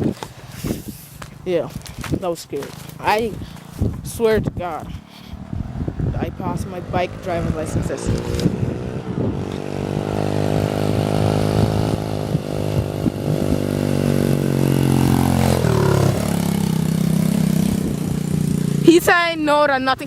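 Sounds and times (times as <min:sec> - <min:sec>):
pit bike engine running: 0:00.0 - 0:19.8.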